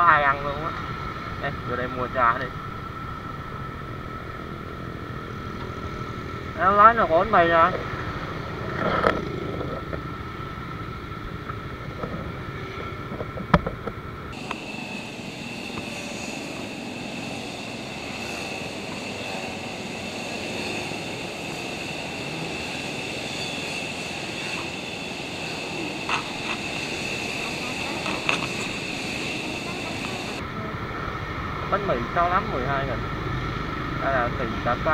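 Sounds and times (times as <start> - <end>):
motorbike traffic hum: 0.0 - 34.9.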